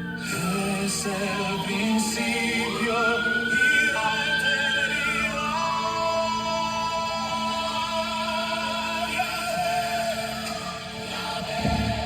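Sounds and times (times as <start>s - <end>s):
worship song: 0.0s - 12.0s.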